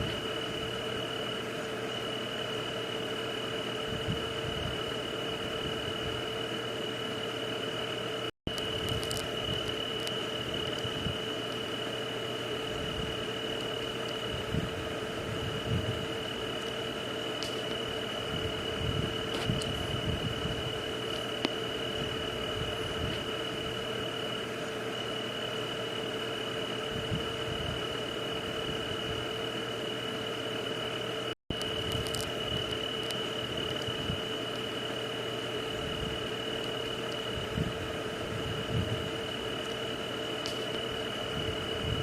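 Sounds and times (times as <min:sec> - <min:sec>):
constant high tone: 0:00.0 - 0:42.0
low steady hum: 0:00.0 - 0:42.0
white noise hiss: 0:00.0 - 0:42.0.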